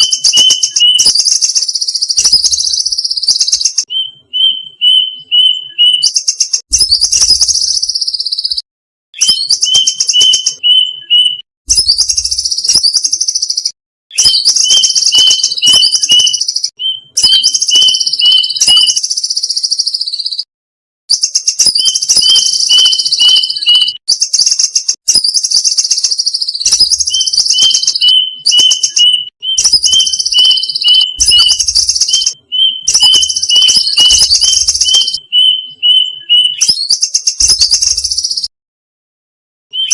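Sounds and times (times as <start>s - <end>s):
cuckoo calls: 0.0s - 8.6s, 9.2s - 20.5s, 21.2s - 38.5s.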